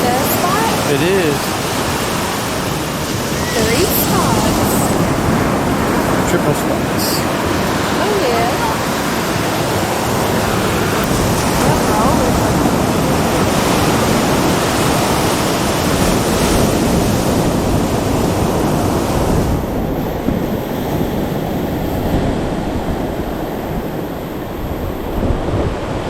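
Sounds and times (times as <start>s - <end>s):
ocean surf washing on beach: 0.0s - 26.0s
wind buffeting microphone: 0.0s - 26.0s.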